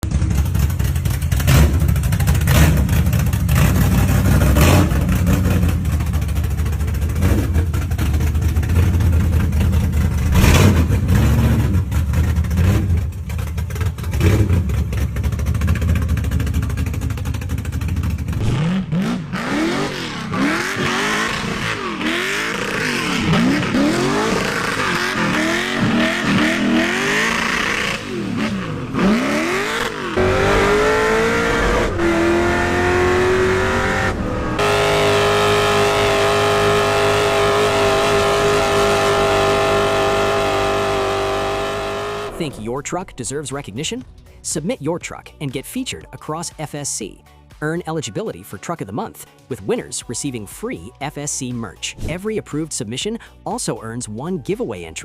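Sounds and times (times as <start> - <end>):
engine revving: 0.0 - 44.0
engine exhaust rumble: 0.0 - 46.2.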